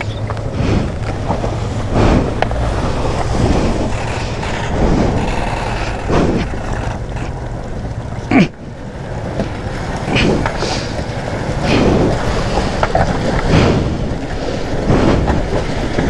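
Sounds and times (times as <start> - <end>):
stream rushing over stones: 0.0 - 16.0
water splashing: 0.0 - 16.0
wind noise on microphone: 0.0 - 16.0.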